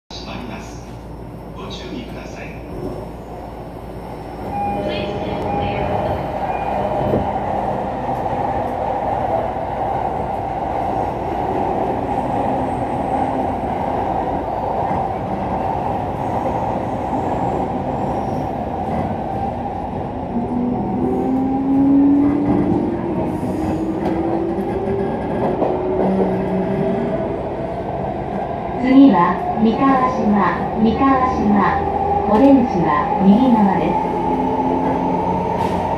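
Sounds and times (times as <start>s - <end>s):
train running noise: 1.6s - 35.9s.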